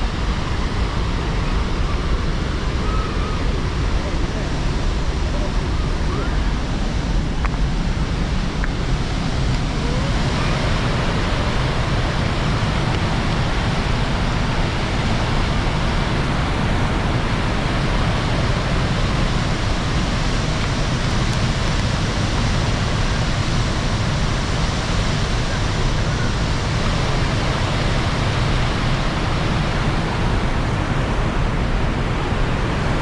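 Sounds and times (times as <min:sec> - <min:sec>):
fast-flowing floodwater rushing: 0:00.0 - 0:33.0.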